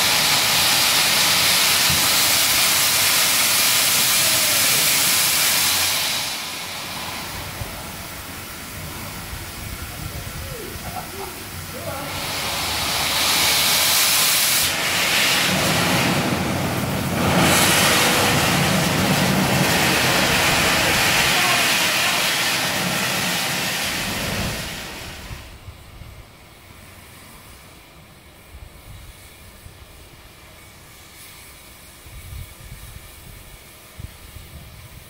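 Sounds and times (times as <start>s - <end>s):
steam hissing loudly: 0.0s - 35.0s.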